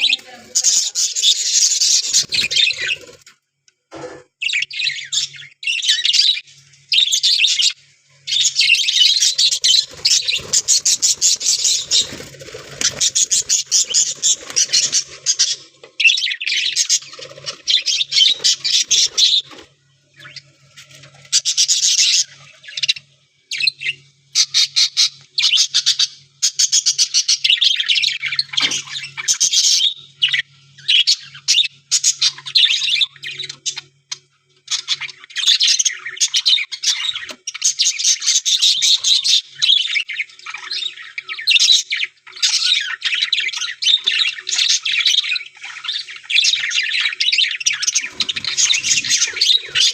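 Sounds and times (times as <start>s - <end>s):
budgerigars chattering: 0.0s - 3.2s, 4.4s - 19.6s, 21.2s - 33.9s, 34.7s - 49.9s.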